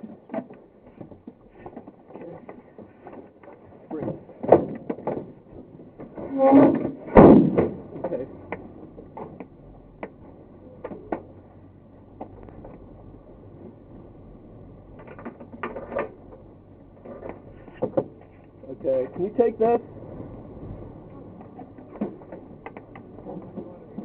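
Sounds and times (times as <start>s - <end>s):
airframe knocking and rattling: 0.0s - 11.5s, 14.8s - 20.0s, 20.6s - 24.0s.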